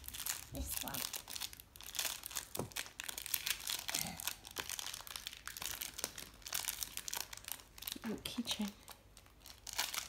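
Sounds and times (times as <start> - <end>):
plastic wrapper crinkling and tearing: 0.0 - 10.0.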